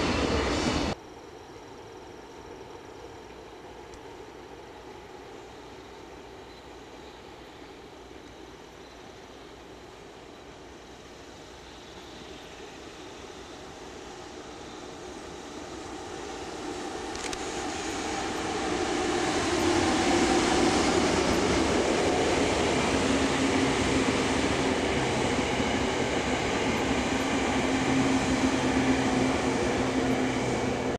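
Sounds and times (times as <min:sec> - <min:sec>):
train passing at close range: 0:00.0 - 0:30.9.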